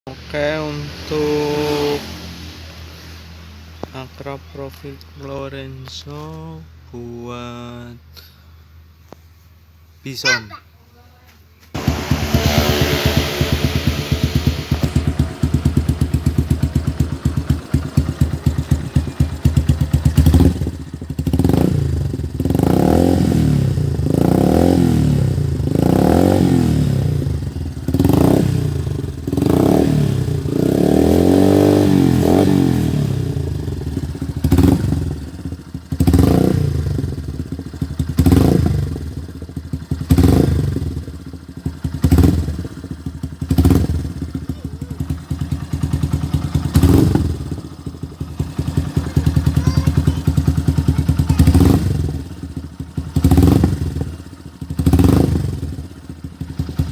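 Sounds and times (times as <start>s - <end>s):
motorcycle engine idling and revving: 0.0s - 5.2s, 11.7s - 56.9s.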